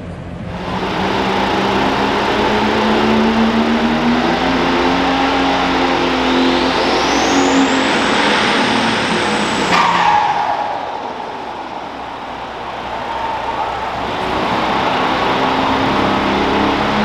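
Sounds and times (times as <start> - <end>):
high whine: 0.0 - 17.0
tractor engine running loud: 0.0 - 17.0.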